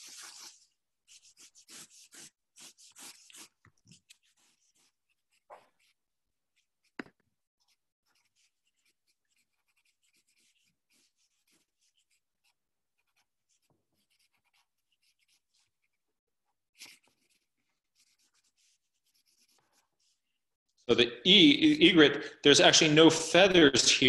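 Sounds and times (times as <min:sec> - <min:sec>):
pencil scratching on paper: 0:00.0 - 0:20.8.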